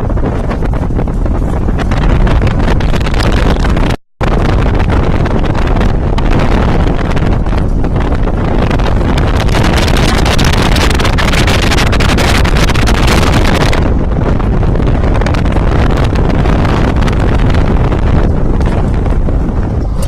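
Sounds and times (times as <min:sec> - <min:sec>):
vehicle running and road noise: 0:00.0 - 0:20.0
wind buffeting microphone: 0:00.0 - 0:20.0.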